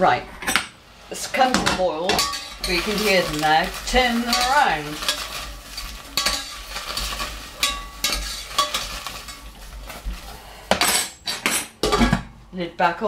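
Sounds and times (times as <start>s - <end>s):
spoon scraping a metal pan: 0.0s - 12.0s
beans sizzling in water: 0.8s - 11.8s.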